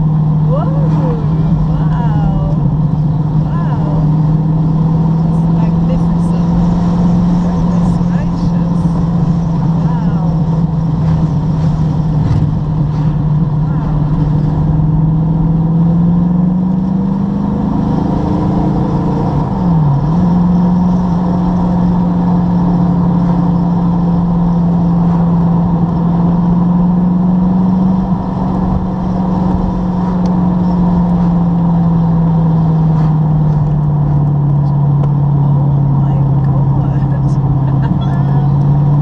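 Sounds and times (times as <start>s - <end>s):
sports car engine pulling: 0.0s - 39.0s
tyre and road noise: 0.0s - 39.0s.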